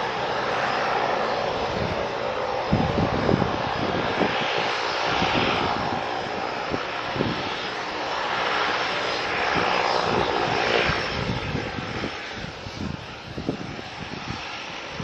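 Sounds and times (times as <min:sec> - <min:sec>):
turboprop engines at taxi power: 0:00.0 - 0:15.0.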